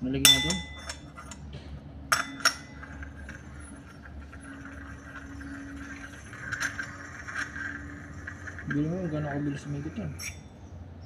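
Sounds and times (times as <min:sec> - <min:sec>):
sharp metallic clinks: 0:00.0 - 0:01.5, 0:02.1 - 0:10.6
faint steady hum: 0:00.0 - 0:11.0.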